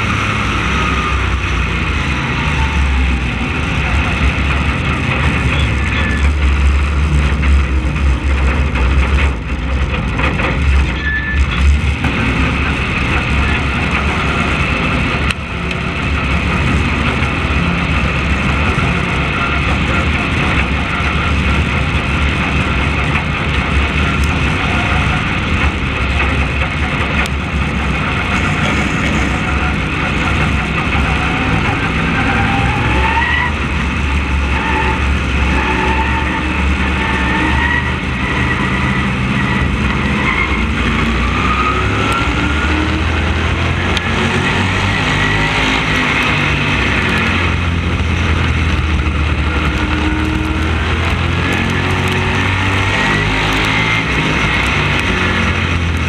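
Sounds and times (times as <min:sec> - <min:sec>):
race car engine rumbling: 0:00.0 - 0:56.0.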